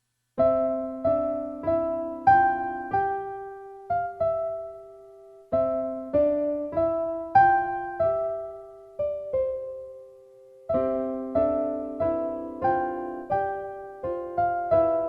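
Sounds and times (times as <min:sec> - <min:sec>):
gentle solo piano tune: 0:00.4 - 0:15.0.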